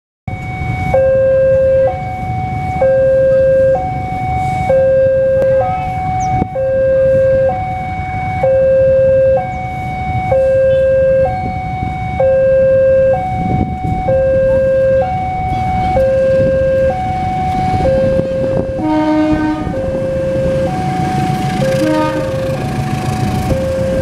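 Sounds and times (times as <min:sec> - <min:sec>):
diesel locomotive rumble: 0:00.3 - 0:24.0
two-tone warning alarm: 0:00.3 - 0:24.0.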